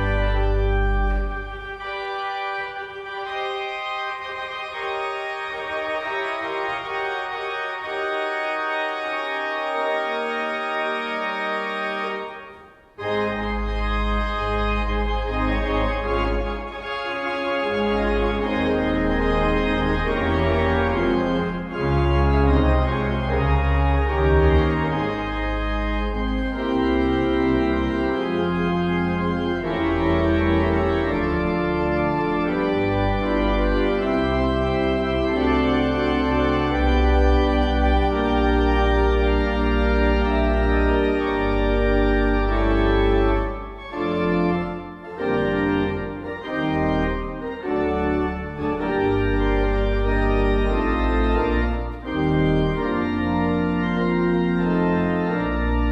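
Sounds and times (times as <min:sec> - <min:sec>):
church organ chords: 0:00.0 - 0:55.9.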